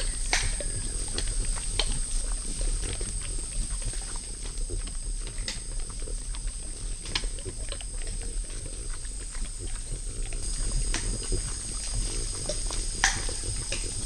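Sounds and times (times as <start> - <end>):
animals crunching food: 0.0 - 14.0.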